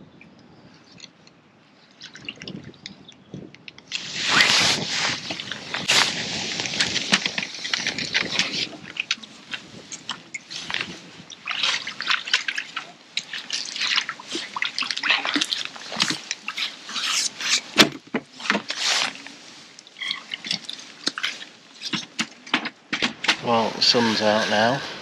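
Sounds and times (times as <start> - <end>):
water splashing and dripping: 1.8 - 22.6.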